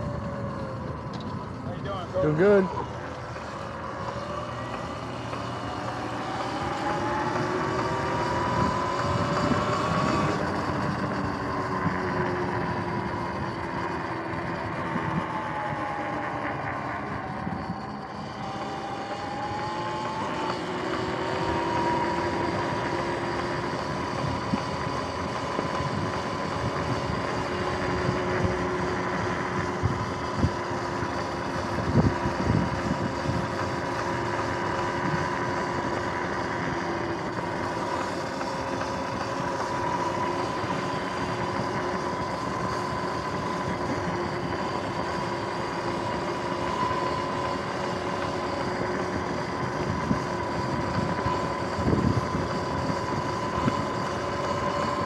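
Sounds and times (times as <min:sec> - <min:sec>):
electric motor whining: 0:00.0 - 0:55.0
wind noise: 0:02.9 - 0:55.0.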